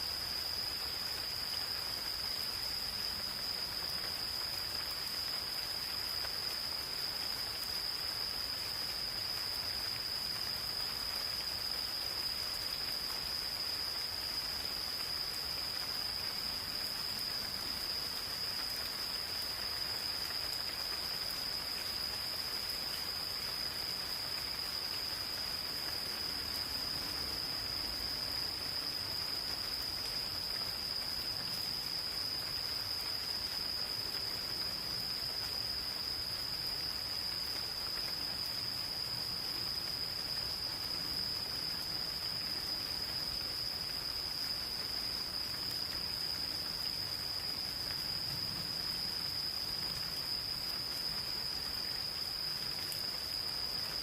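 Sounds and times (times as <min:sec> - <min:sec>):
gentle rain pattering: 0:00.0 - 0:54.0
insects trilling: 0:00.0 - 0:54.0.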